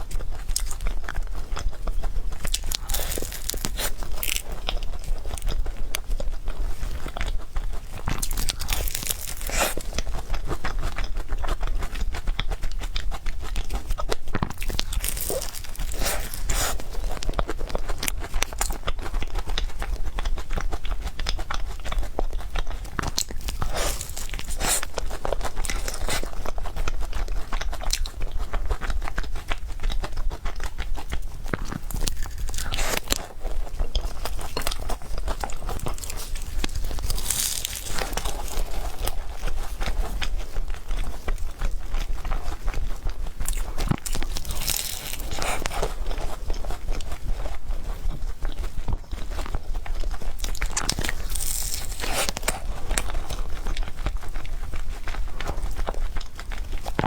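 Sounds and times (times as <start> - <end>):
person chewing cake: 0.0 - 57.0.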